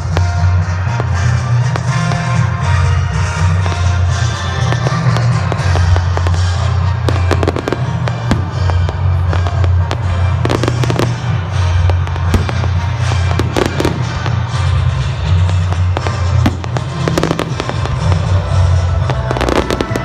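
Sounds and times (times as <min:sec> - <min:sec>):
fireworks crackling and popping: 0:00.0 - 0:20.0
loud music with heavy bass: 0:00.0 - 0:20.0.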